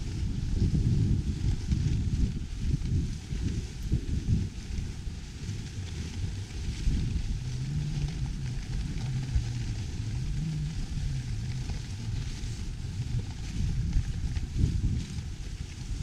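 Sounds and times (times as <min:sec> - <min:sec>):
low wavering hum: 0:00.0 - 0:16.0
sled runners hissing on snow: 0:00.0 - 0:16.0
wind rumble on microphone: 0:00.0 - 0:16.0.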